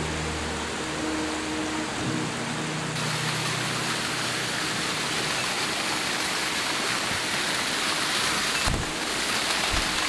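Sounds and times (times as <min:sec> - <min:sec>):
stream cascading over rock: 0:00.0 - 0:10.0.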